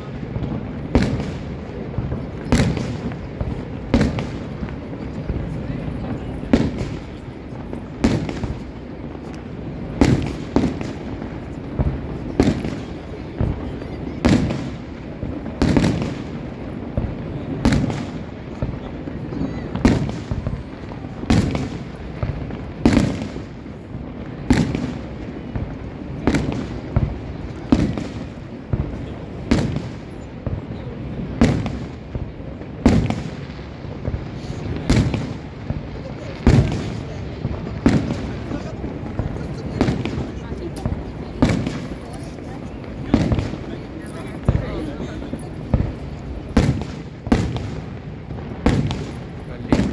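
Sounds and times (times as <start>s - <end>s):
crowd murmur: 0.0s - 49.9s
fireworks booming: 0.0s - 49.9s.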